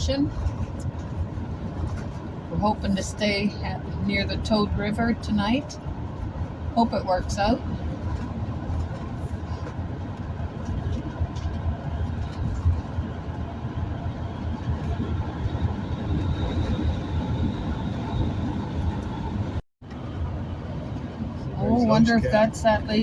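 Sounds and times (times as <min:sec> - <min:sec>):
road and engine noise in vehicle: 0:00.0 - 0:23.0.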